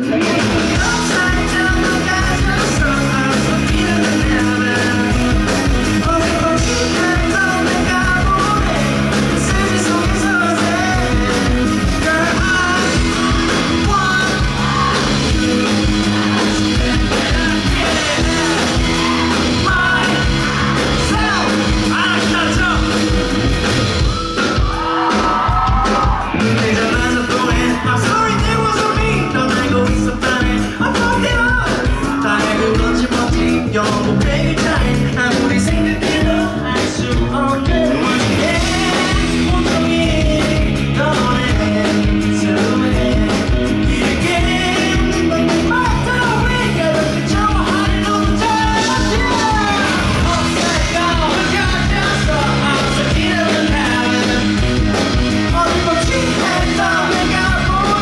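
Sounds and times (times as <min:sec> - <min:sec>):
man singing into microphone: 0:00.0 - 0:22.9, 0:26.3 - 0:54.8, 0:55.4 - 0:58.0
live rock band playing: 0:00.0 - 0:58.0.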